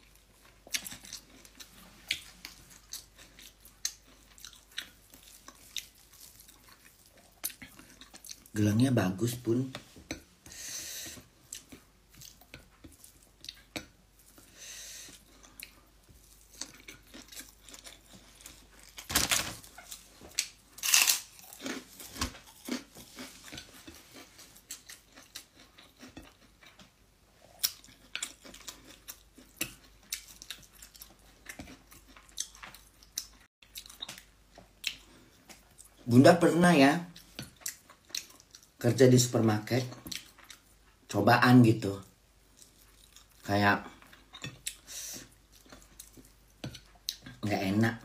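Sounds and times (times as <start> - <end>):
person chewing food: 0.0 - 8.6, 9.3 - 36.1, 37.1 - 38.8, 39.7 - 41.2, 42.4 - 47.4.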